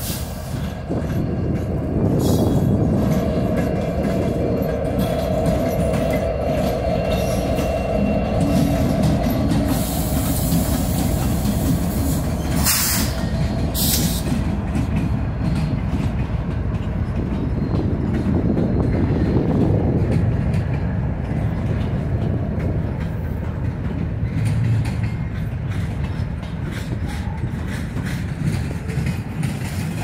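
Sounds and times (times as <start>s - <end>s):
freight train rumbling past: 0.0s - 30.0s
wheels clickety-clack on rail: 0.0s - 30.0s.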